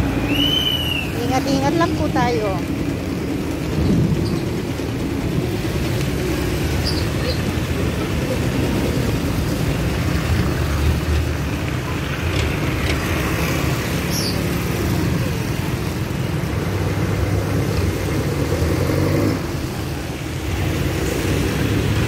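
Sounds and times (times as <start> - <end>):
car engines passing: 0.0 - 22.0
steady traffic noise: 0.0 - 22.0.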